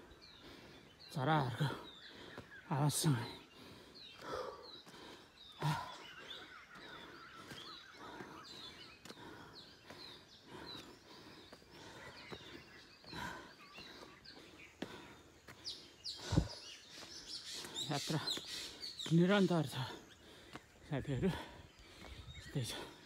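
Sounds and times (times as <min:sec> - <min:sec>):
small birds chirping: 0:00.0 - 0:23.0
soft footsteps on stone steps: 0:02.0 - 0:23.0.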